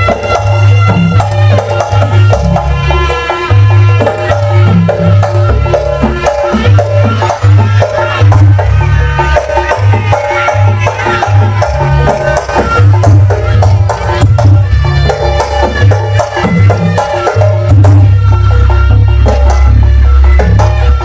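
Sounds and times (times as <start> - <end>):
pitched melodic notes: 0.0 - 21.0.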